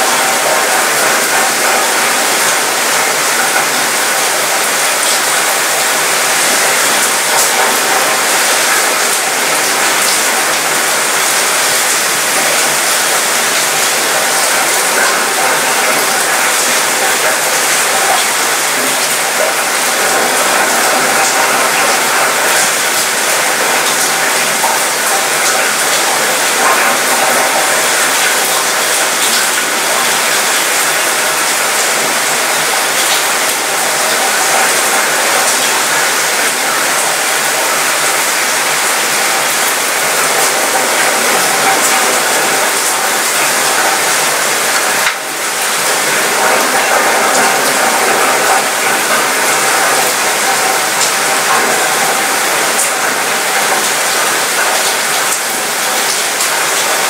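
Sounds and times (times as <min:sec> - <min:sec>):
rain on metal: 0:00.0 - 0:57.0.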